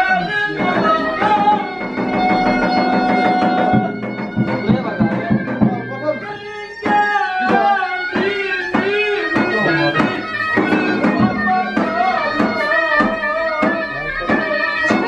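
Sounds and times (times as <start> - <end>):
steady drum beat: 0.0 - 15.0
wavering ornamented melody: 0.0 - 15.0.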